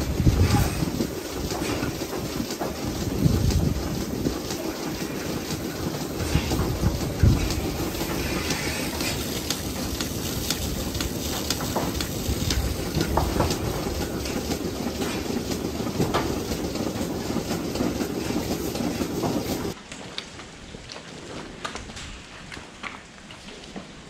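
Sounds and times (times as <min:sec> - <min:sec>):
milking machine hiss and rumble: 0:00.0 - 0:19.8
milking units clattering: 0:00.0 - 0:19.8.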